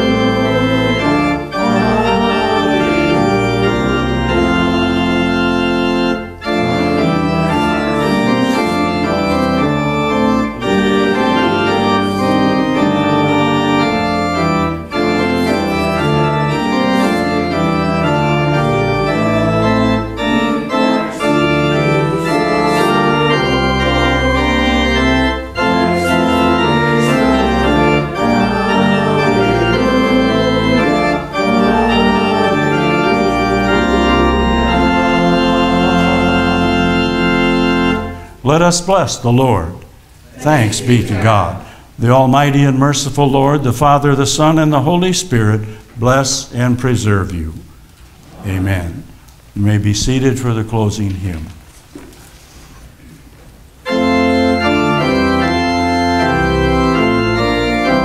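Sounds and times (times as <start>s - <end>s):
church organ chords: 0.0s - 47.8s, 48.4s - 51.6s, 53.6s - 58.0s.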